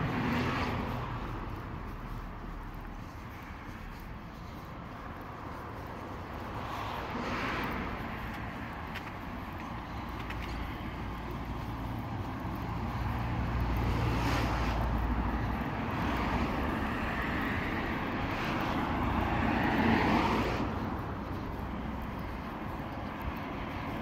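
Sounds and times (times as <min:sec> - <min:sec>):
engine passing by: 0:00.0 - 0:08.6, 0:10.0 - 0:22.0.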